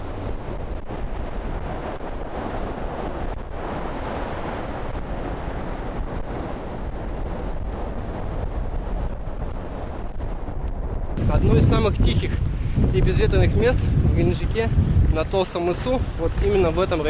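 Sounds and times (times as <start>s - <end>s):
stormy sea surf: 0.0s - 17.0s
wind buffeting microphone: 0.0s - 17.0s.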